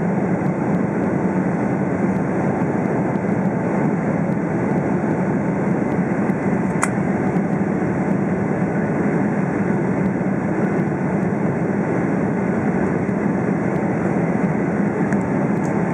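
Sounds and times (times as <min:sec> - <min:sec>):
distant jet engine rumble: 0:00.0 - 0:15.9.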